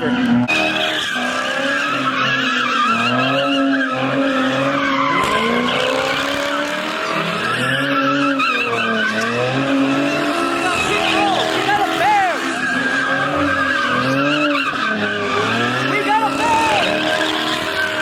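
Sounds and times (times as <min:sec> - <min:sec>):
car engine revving: 0:00.0 - 0:18.0
car tyres squealing: 0:00.0 - 0:18.0.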